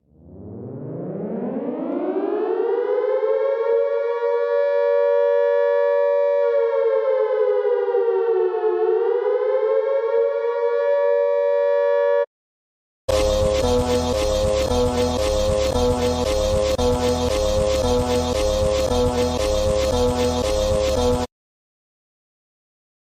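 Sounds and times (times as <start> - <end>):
outdoor warning siren: 0.2 - 12.3, 13.1 - 21.3.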